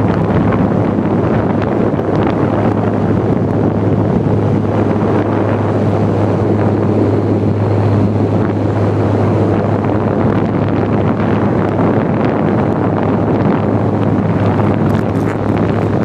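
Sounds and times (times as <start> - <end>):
fan airflow rushing over microphone: 0.0 - 16.0
fan motor low hum: 0.0 - 16.0.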